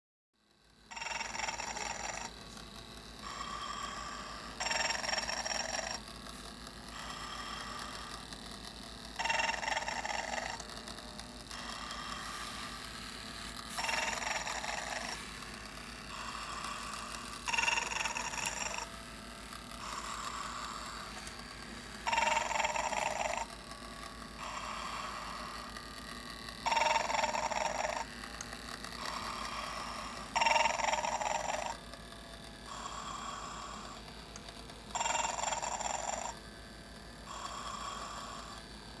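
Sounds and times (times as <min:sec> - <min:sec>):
toy snoring through small speaker: 0:00.8 - 0:39.0.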